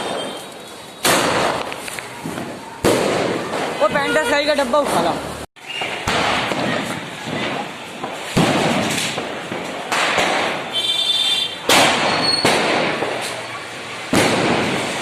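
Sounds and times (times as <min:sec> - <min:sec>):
firecracker bangs: 0:00.0 - 0:15.0.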